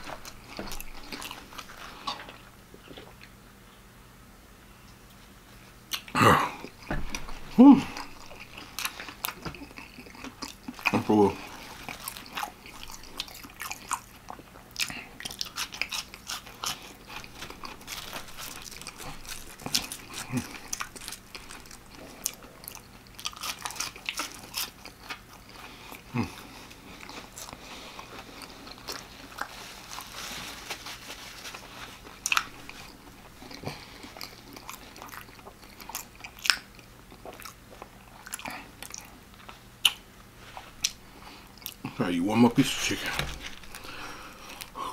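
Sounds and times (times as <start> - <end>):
crunchy chewing: 0.0 - 3.4, 5.9 - 42.0, 42.6 - 44.9.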